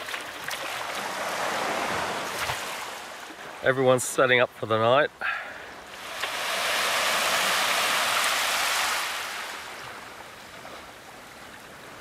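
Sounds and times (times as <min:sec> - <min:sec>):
small waves washing on sand: 0:00.0 - 0:04.0, 0:05.7 - 0:12.0.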